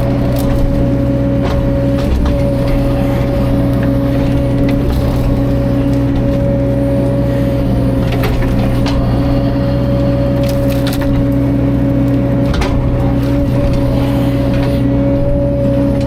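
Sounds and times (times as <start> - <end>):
wood knocking and cracking: 0.0 - 6.8, 7.6 - 14.8
excavator diesel engine running: 0.0 - 16.0.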